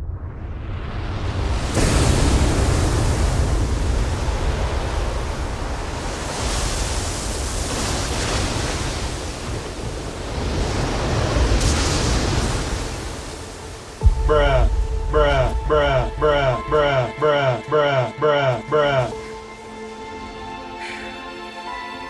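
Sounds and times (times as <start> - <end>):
wind: 0.0 - 22.0
waves washing: 1.8 - 20.5.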